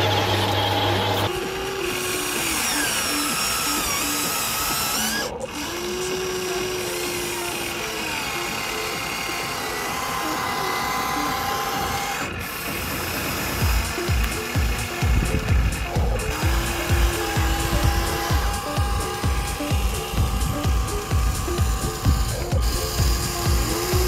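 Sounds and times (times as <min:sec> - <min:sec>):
small electric motor whining: 0:00.0 - 0:24.0.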